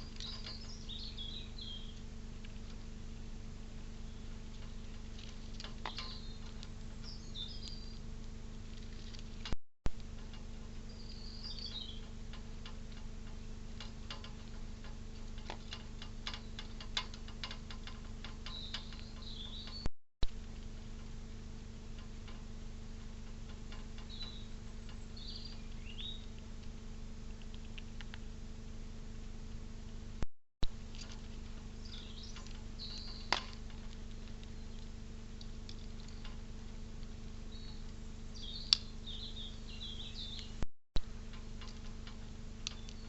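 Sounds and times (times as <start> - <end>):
small birds chirping: 0.0 - 13.5, 14.1 - 19.9, 22.9 - 28.3, 30.8 - 40.6, 41.3 - 43.0
steady low hum: 0.0 - 43.0.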